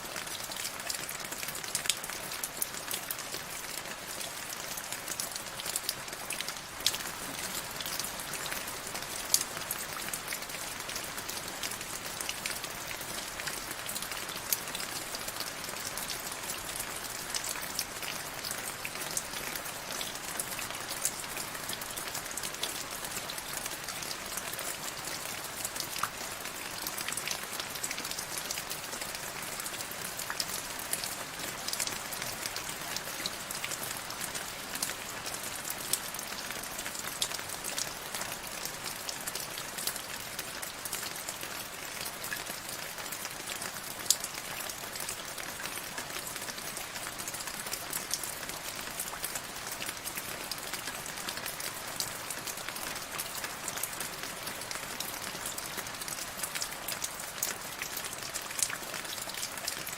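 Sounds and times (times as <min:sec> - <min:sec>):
rain drops ticking on hard surface: 0:00.1 - 0:59.9.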